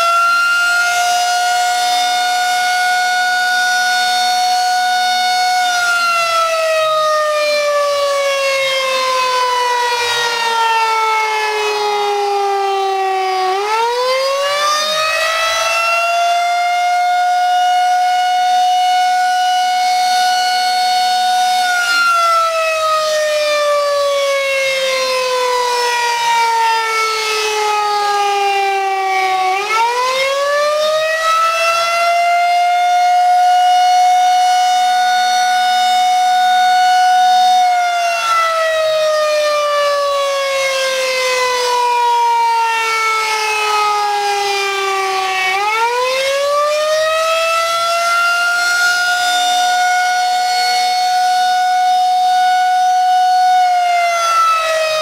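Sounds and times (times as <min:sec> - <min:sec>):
siren wailing: 0:00.0 - 0:55.0.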